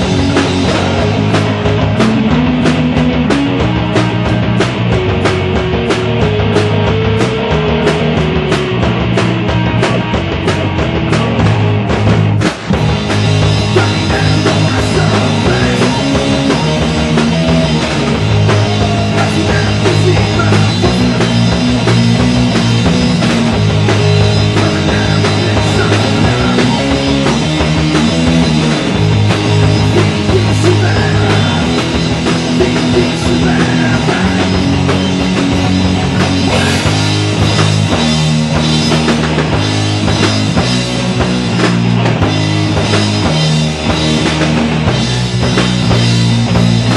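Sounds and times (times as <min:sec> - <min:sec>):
drum kit: 0:00.0 - 0:46.9
electric bass: 0:00.0 - 0:46.9
electric guitar: 0:00.0 - 0:46.9.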